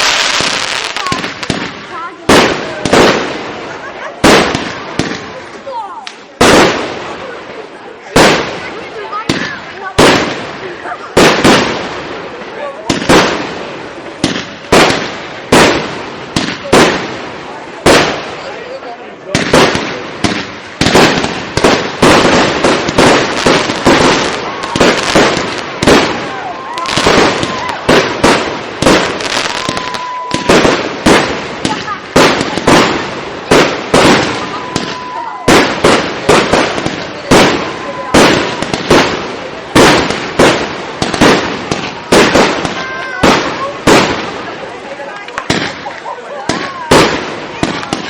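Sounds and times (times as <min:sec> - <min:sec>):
fireworks bursting: 0:00.0 - 0:48.0.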